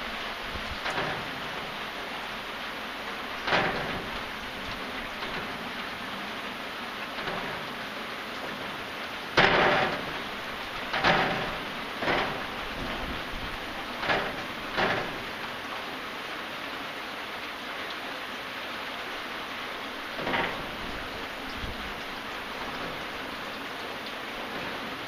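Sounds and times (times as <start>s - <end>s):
steady rain falling: 0.0s - 25.0s
water spattering: 0.0s - 25.0s.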